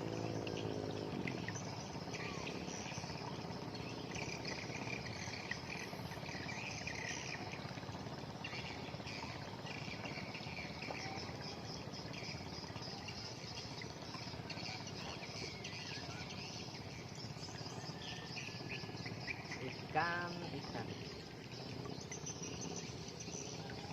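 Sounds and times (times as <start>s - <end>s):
insects trilling: 0.0s - 23.9s.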